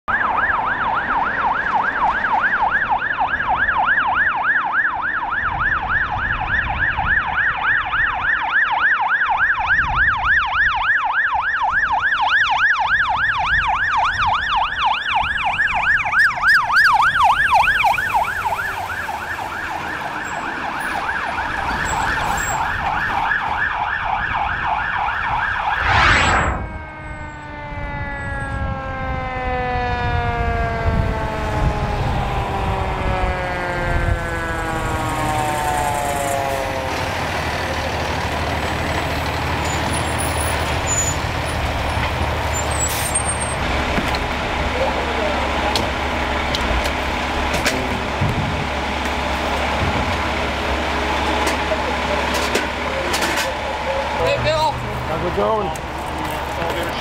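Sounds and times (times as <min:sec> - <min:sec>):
fire engine siren yelping: 0:00.0 - 0:57.0.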